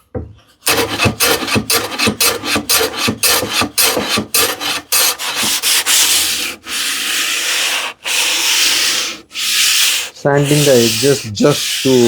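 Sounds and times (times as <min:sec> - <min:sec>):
sandpaper rubbing on plywood: 0:00.7 - 0:12.0.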